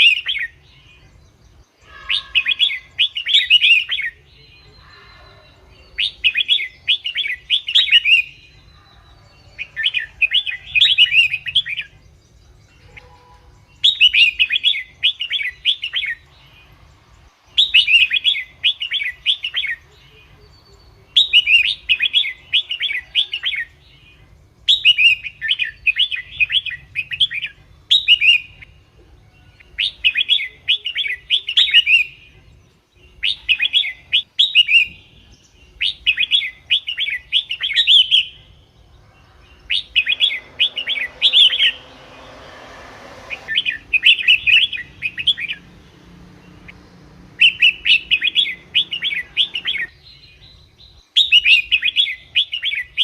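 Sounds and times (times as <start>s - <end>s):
bird chirping song: 0.0s - 53.0s.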